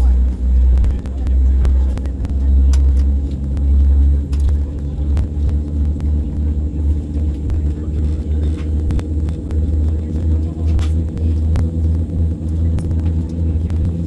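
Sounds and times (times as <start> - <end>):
airliner cabin low rumble: 0.0 - 14.0.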